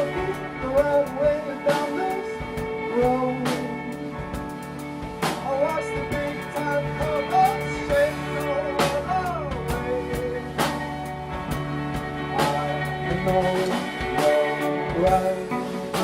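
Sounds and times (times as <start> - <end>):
sustained guitar chords: 0.0 - 16.0.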